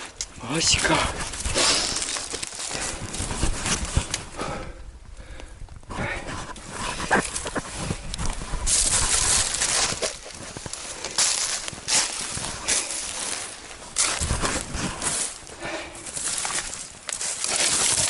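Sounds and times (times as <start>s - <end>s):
rustling: 0.0s - 4.3s, 6.3s - 18.0s
footsteps on a hill road: 0.0s - 5.4s, 6.0s - 18.0s.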